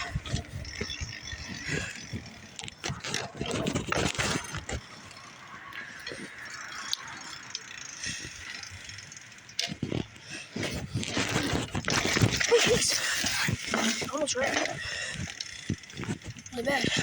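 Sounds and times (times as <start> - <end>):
bicycle rattling and clicking: 0.0 - 17.0
rushing noise of riding: 0.0 - 17.0.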